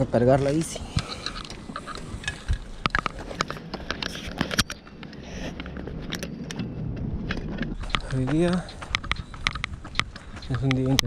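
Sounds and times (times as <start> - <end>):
bicycle tyres crunching on dirt: 0.0 - 11.0.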